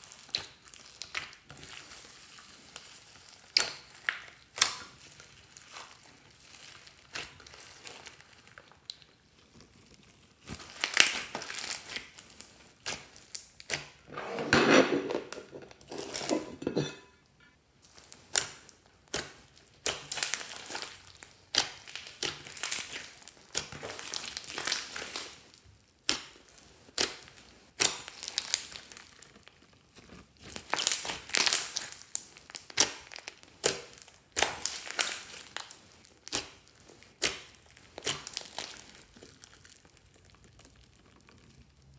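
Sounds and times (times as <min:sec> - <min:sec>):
slime squishing: 0:00.0 - 0:16.5, 0:17.8 - 0:41.9.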